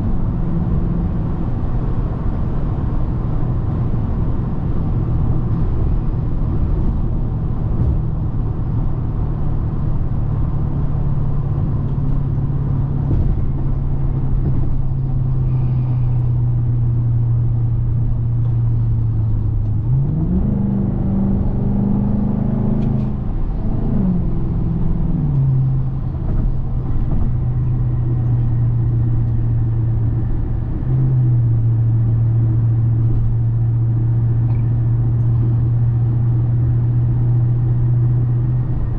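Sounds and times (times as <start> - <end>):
car engine revving while driving: 0.0 - 38.9.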